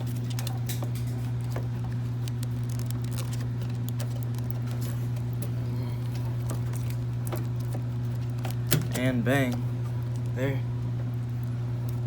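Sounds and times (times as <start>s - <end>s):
wiring harness clicks and rustling: 0.0s - 10.4s
low hum: 0.0s - 12.0s.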